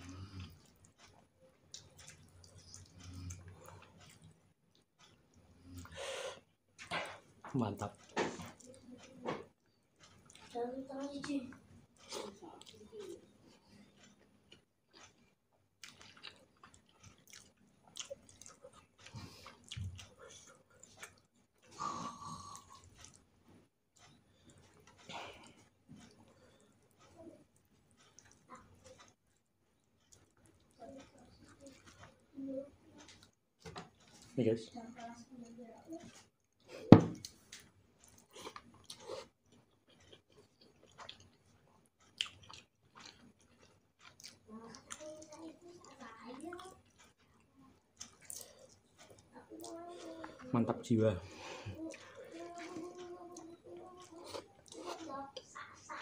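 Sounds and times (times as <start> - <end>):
person chewing food: 0.0 - 34.4, 35.2 - 56.0.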